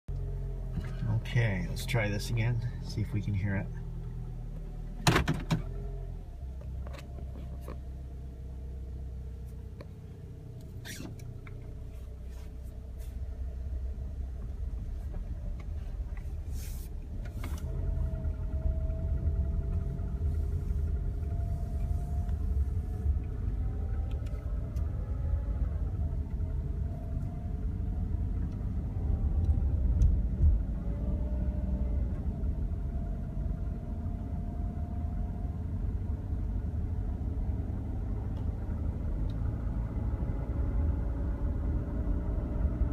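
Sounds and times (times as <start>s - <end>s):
car engine low rumble: 0.0s - 42.9s.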